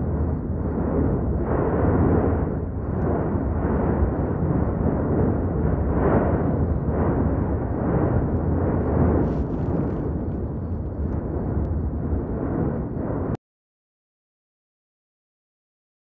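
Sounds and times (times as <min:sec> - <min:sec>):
volcanic vent rumbling: 0:00.0 - 0:13.4.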